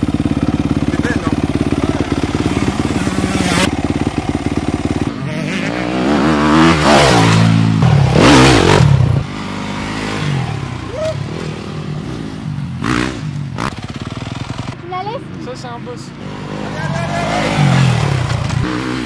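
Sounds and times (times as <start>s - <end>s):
dirt bike engine revving: 0.0s - 15.1s, 16.1s - 19.0s.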